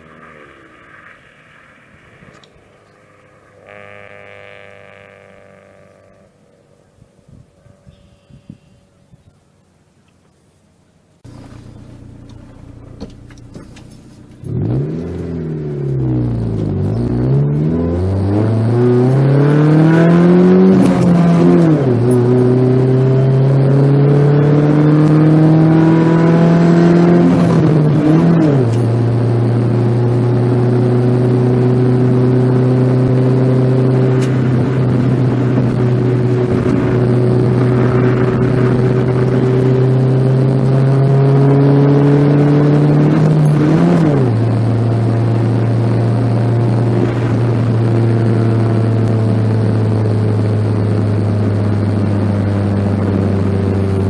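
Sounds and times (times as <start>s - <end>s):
car engine accelerating: 0.0s - 6.9s, 11.2s - 54.0s.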